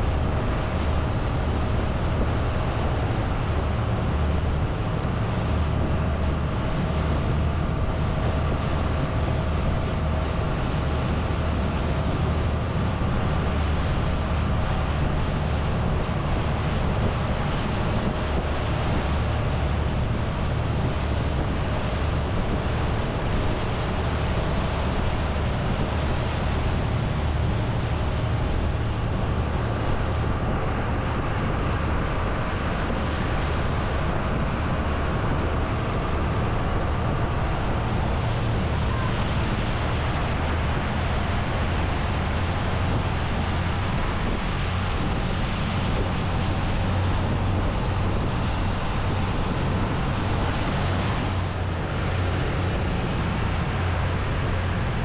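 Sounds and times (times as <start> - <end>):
boat engine drone: 0.0 - 55.0
water rushing past hull: 0.0 - 55.0
wind on microphone: 0.0 - 55.0.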